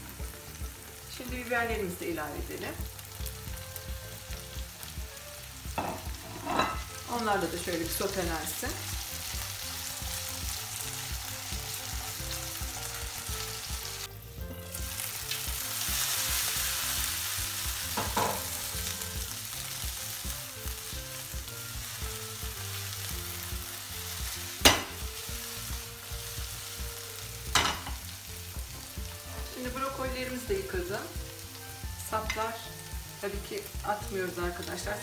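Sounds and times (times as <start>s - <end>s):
vegetables sizzling in oil: 0.0s - 35.0s.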